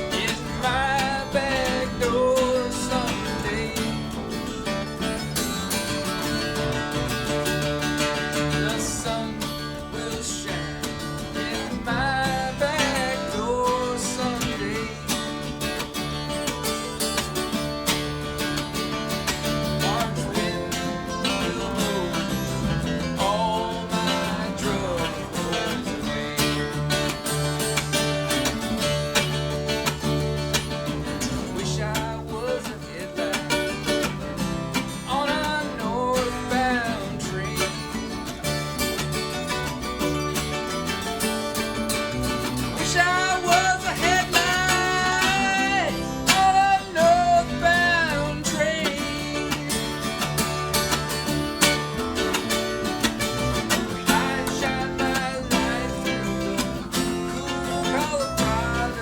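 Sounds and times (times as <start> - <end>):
bluegrass string band playing: 0.0 - 59.0.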